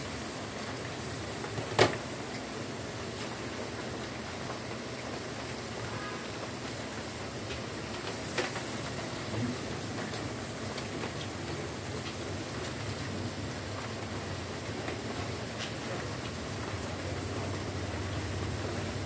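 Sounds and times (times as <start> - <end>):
steak sizzling in a grill pan: 0.0 - 19.0.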